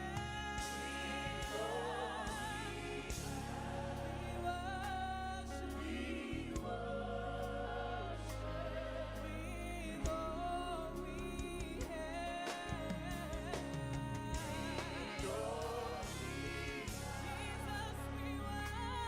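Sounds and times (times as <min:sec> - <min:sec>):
keyboard and bass chords: 0:00.0 - 0:19.0
person singing with vibrato: 0:00.0 - 0:19.0.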